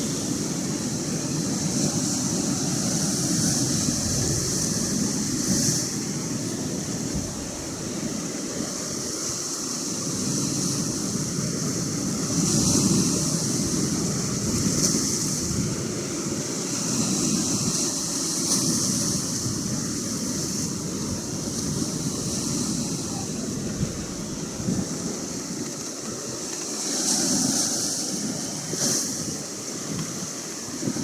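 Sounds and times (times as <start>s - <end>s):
surf washing on shore: 0.0s - 31.0s
wind rumbling on microphone: 0.0s - 31.0s.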